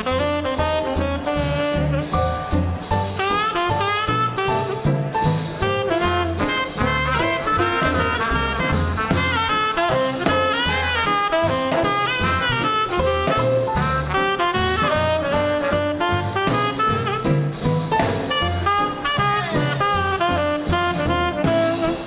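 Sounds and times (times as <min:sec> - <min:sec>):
saxophone: 0:00.0 - 0:05.0, 0:05.6 - 0:17.5, 0:18.2 - 0:22.0
bass line: 0:00.0 - 0:22.0
drums: 0:00.0 - 0:22.0
piano: 0:00.0 - 0:22.0
trumpet: 0:00.0 - 0:22.0.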